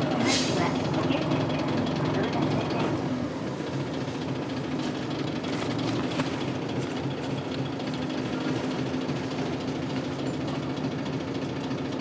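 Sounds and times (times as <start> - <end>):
diesel bus engine running: 0.0 - 12.0.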